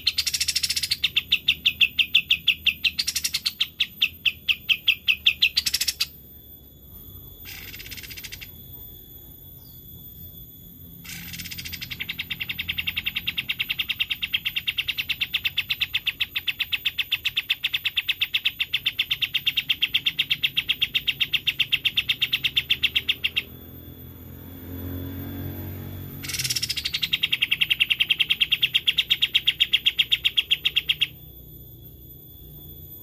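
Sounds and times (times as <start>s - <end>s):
songbird trilling: 0.0s - 33.0s.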